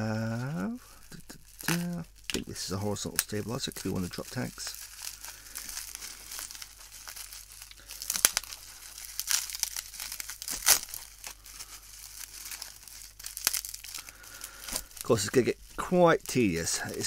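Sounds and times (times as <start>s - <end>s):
bubble wrap crinkling: 0.0s - 17.0s
sharp bubble wrap crackles: 0.0s - 17.0s.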